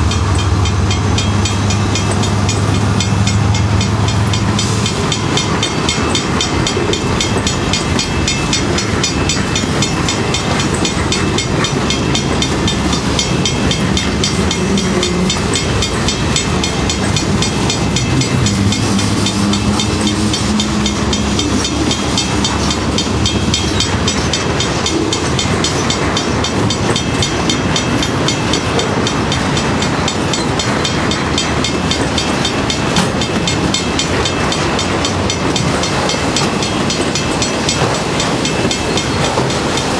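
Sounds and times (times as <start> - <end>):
diesel locomotive drone: 0.0 - 39.9
railcar wheels rolling on rails: 0.0 - 39.9.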